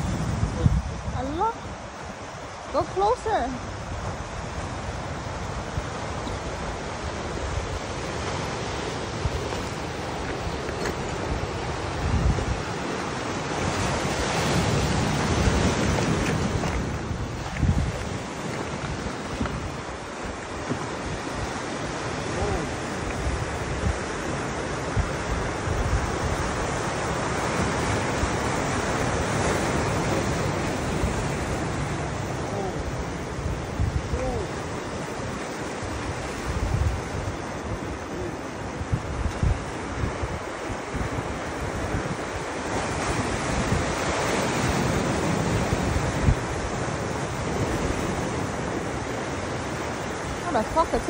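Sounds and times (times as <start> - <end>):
surf washing on shore: 0.0 - 51.0
wind buffeting microphone: 0.0 - 51.0.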